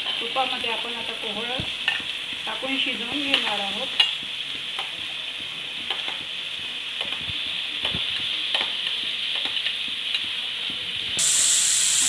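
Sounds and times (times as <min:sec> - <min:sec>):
pumpkin sizzling in pan: 0:00.0 - 0:12.0.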